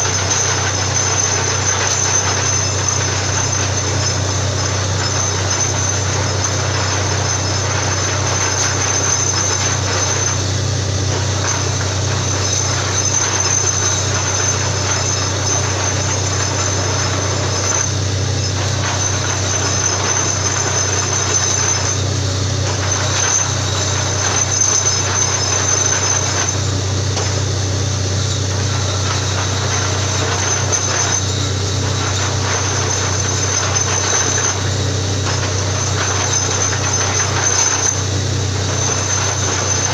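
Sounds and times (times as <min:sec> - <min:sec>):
drilling rig machine din: 0:00.0 - 0:39.9.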